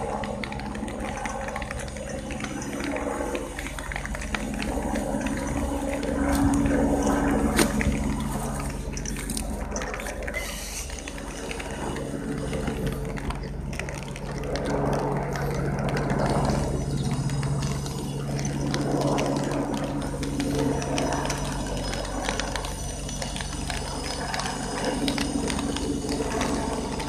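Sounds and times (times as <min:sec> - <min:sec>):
electric train humming: 0:00.0 - 0:27.0.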